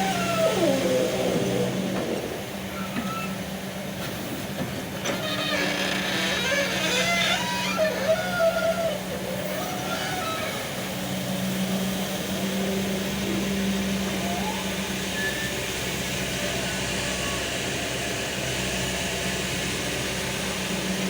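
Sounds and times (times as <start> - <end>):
excavator engine hum: 0.0 - 21.0
hydraulics whining and squealing: 0.0 - 21.0.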